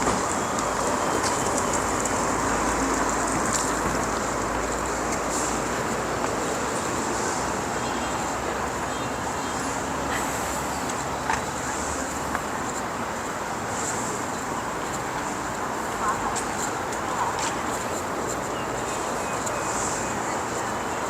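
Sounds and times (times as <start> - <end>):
continuous hiss: 0.0 - 21.0
distant traffic: 0.0 - 21.0.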